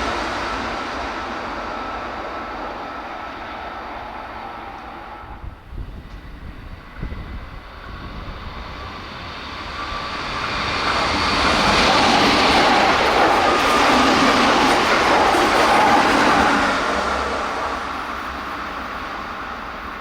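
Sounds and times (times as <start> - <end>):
electric train passing: 0.0 - 20.0
train whine: 0.0 - 20.0.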